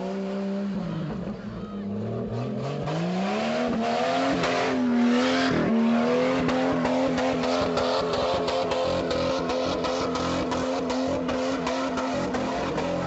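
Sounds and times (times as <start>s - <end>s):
engine revving against rev limiter: 0.0s - 13.0s.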